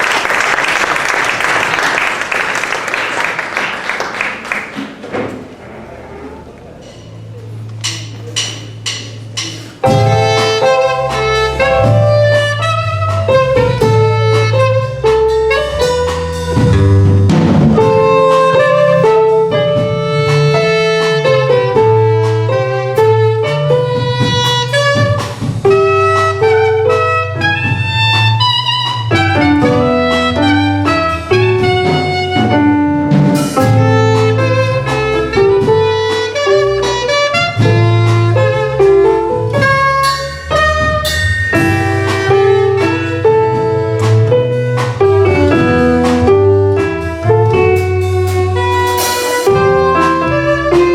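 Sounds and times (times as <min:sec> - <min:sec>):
live instrumental ensemble music: 0:00.0 - 0:50.9.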